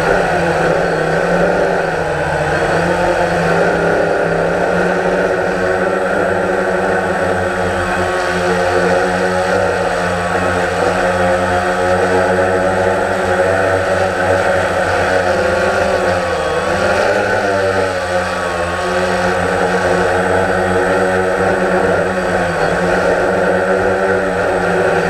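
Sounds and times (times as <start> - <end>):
drone motors buzzing: 0.0 - 25.0.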